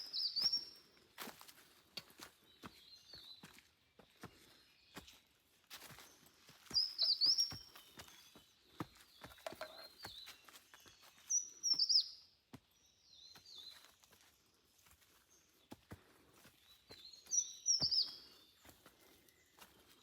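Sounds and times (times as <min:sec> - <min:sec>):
footsteps on a trail: 0:00.0 - 0:20.0
songbirds chirping: 0:00.0 - 0:20.0.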